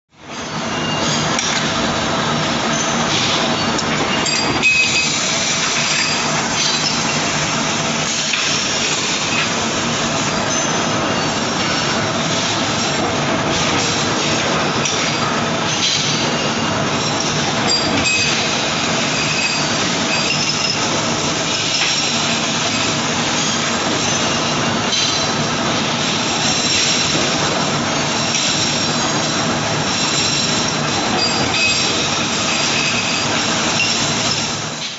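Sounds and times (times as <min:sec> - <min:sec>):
forging machine clatter and hum: 0:00.1 - 0:34.9.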